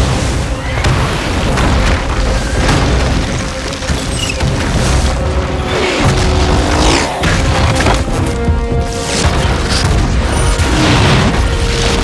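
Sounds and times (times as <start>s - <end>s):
orchestral score: 0.0s - 12.0s.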